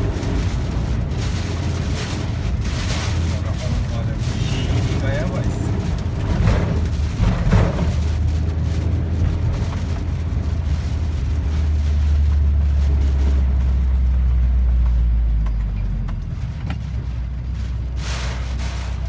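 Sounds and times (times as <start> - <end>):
strong wind rumbling: 0.0 - 19.0.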